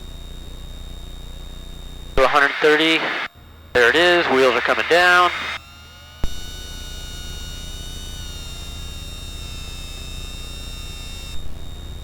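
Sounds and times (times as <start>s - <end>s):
aircraft engine drone: 0.1s - 12.0s.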